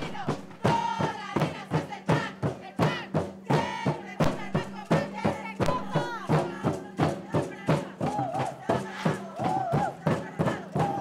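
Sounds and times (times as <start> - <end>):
music with fast beat and melody: 0.0 - 11.0.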